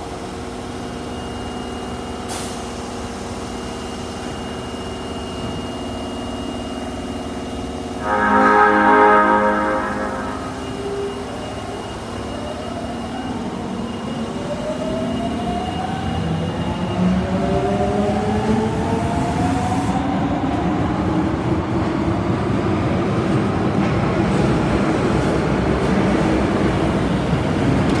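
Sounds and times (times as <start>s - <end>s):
subway traction motors whining: 0.0s - 28.0s
train rail running noise: 0.0s - 28.0s.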